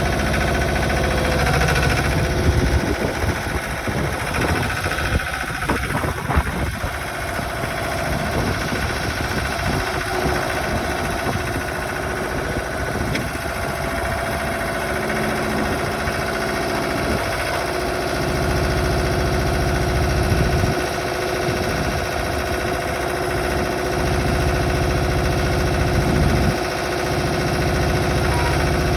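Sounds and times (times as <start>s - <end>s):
paver engine idling: 0.0s - 28.9s.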